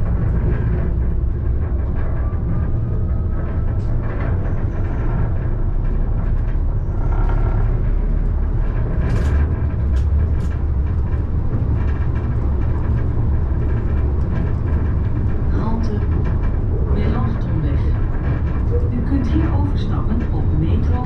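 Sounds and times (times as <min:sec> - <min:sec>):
tram rumbling along track: 0:00.0 - 0:21.0.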